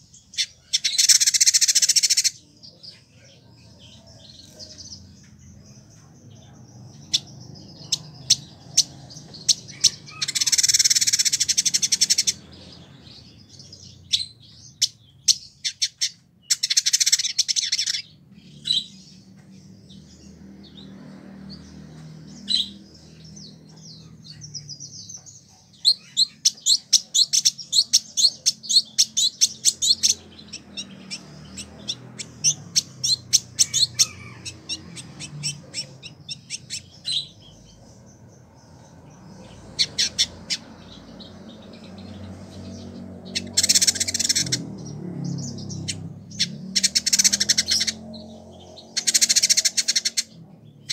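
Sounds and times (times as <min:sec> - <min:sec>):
bird clicking song: 0:00.0 - 0:02.4, 0:04.3 - 0:12.4, 0:13.5 - 0:18.1, 0:21.8 - 0:50.9
buzzy bird chatter: 0:00.0 - 0:50.9.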